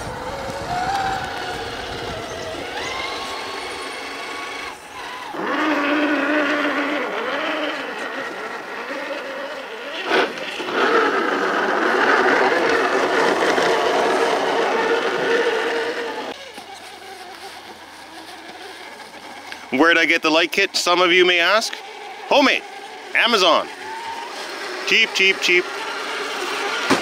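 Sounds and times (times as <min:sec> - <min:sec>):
rc car electric motors whining: 0:00.0 - 0:27.0.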